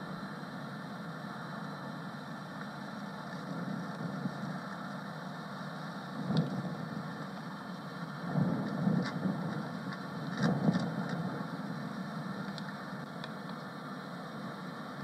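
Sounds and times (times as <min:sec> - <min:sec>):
low rumbling: 0:00.0 - 0:15.0.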